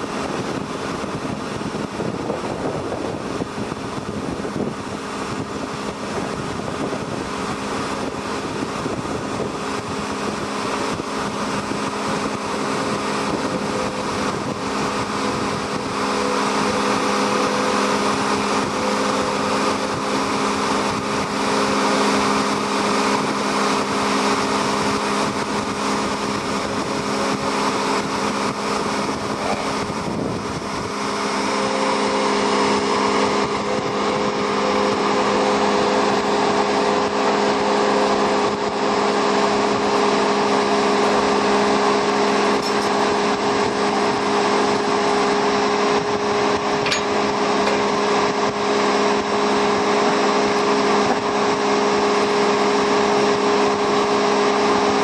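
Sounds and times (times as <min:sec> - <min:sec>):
engine droning hum: 0:00.0 - 0:55.0.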